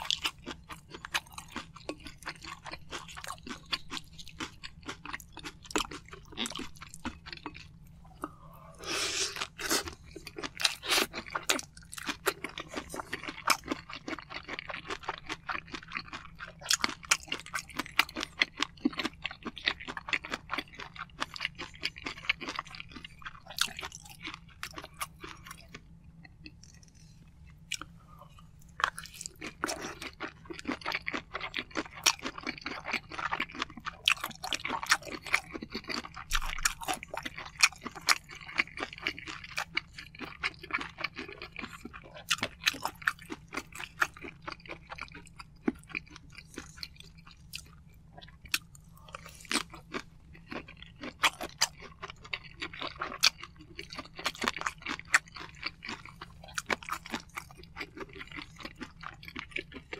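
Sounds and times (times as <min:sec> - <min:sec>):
close chewing with mouth clicks: 0:00.0 - 0:59.9.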